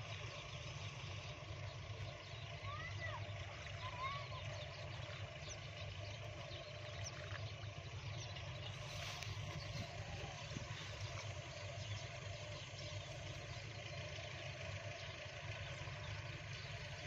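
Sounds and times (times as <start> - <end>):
distant engine hum: 0.0 - 17.0.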